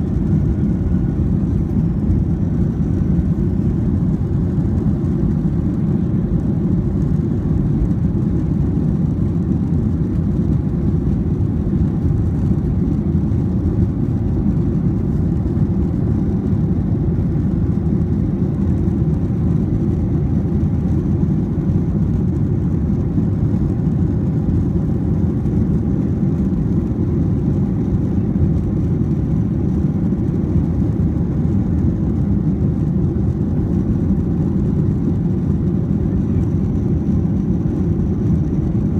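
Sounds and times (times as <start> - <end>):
jet airliner cabin drone: 0.0 - 38.9.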